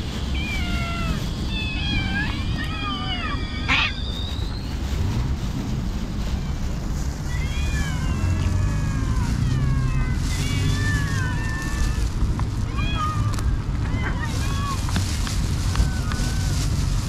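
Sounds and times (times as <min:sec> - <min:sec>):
steady low rumble: 0:00.0 - 0:17.0
cats meowing: 0:00.1 - 0:05.0, 0:06.1 - 0:17.0.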